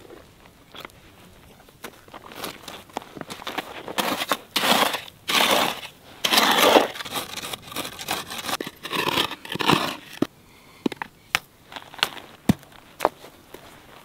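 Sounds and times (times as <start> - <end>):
gravel scraping and crunching: 0.0 - 10.3, 10.9 - 14.0.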